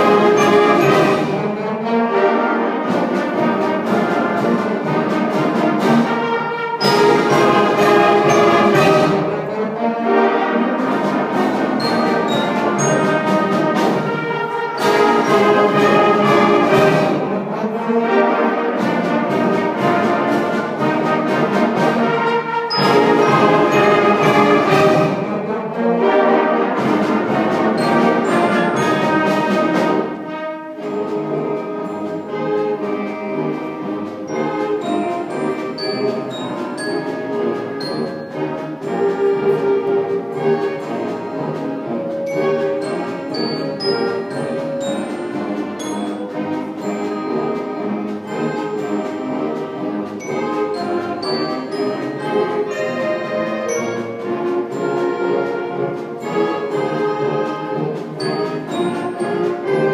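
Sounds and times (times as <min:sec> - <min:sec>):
concert band playing: 0:00.0 - 0:59.9.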